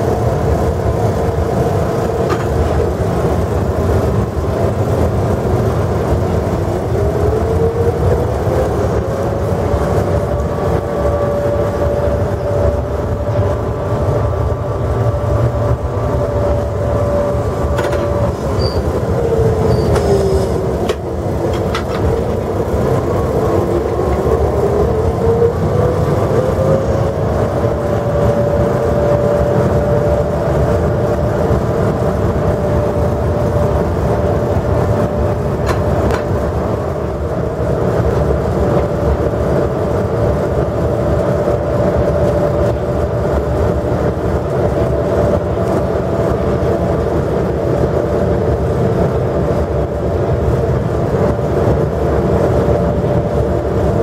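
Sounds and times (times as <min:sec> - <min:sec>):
locomotive cab rumble: 0:00.0 - 0:54.0
locomotive whine: 0:00.0 - 0:54.0.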